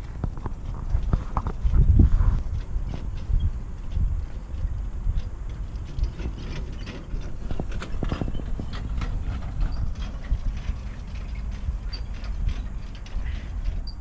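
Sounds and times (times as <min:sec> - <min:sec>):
harness and carriage rattling: 0:00.0 - 0:14.0
horse hooves clip-clopping: 0:00.0 - 0:14.0
steady low rumble: 0:00.0 - 0:14.0.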